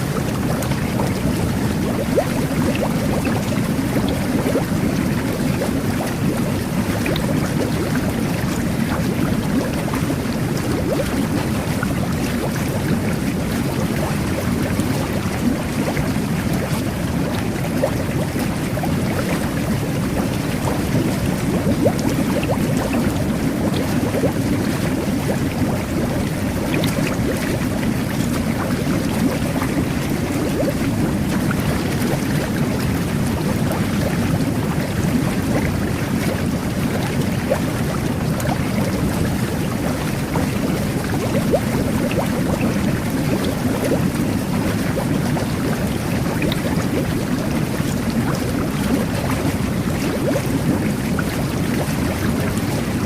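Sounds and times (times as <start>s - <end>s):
bubbles bursting crackles: 0.0s - 53.0s
jet bath water bubbling: 0.0s - 53.0s.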